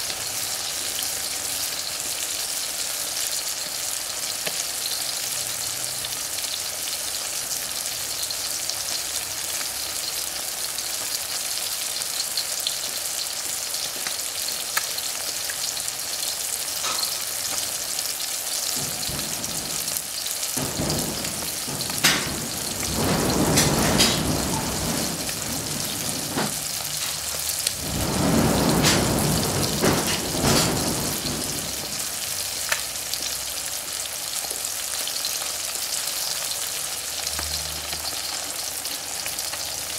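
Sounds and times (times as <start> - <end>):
eggs sizzling in oil: 0.0 - 39.9.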